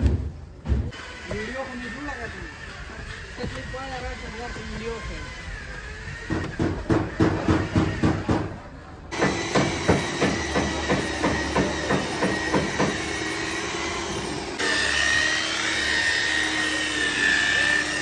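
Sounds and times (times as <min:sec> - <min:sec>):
workshop hum: 0:00.0 - 0:18.0.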